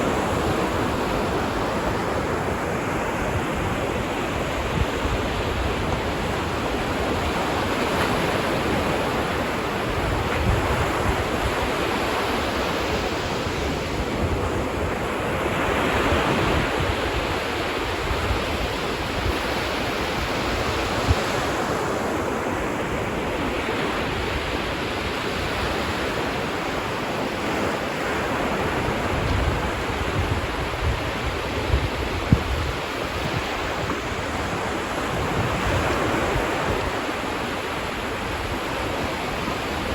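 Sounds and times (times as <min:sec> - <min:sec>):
ocean waves on a beach: 0:00.0 - 0:39.9
wind buffeting microphone: 0:00.0 - 0:39.9.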